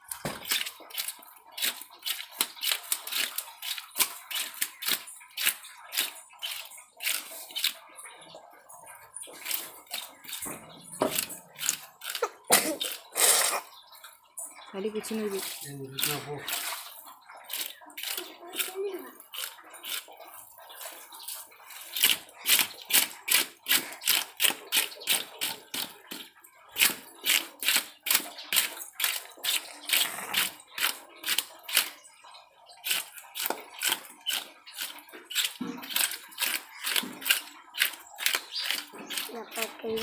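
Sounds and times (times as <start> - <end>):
knife scraping fish scales: 0.1 - 7.8, 9.1 - 13.7, 15.3 - 32.0, 32.8 - 40.0.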